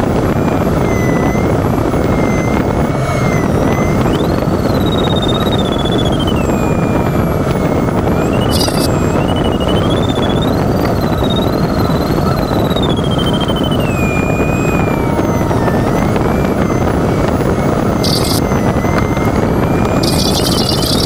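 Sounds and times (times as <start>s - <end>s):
airflow rushing in cockpit: 0.0s - 21.0s
variometer electronic tone: 0.0s - 21.0s.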